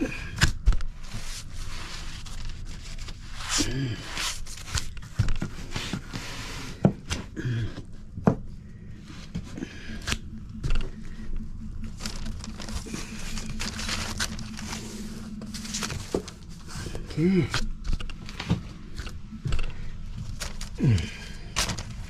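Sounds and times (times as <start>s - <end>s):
crinkling: 0.0s - 7.7s, 8.9s - 22.0s
low steady hum: 0.0s - 22.0s.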